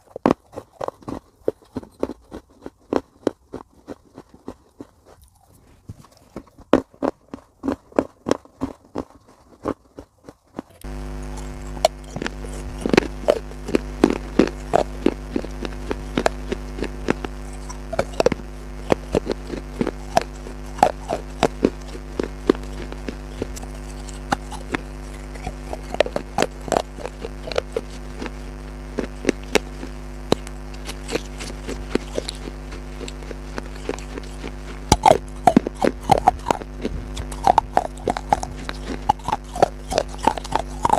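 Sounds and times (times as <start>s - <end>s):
crunchy food being chewed: 0.0s - 40.9s
steady low hum: 0.0s - 40.9s.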